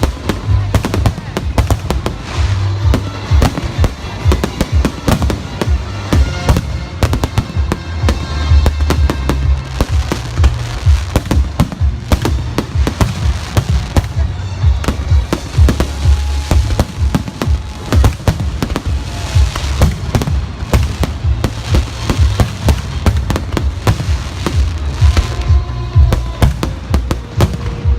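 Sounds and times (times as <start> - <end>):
fireworks bangs: 0.0 - 27.9
loud music with heavy bass: 0.1 - 27.9.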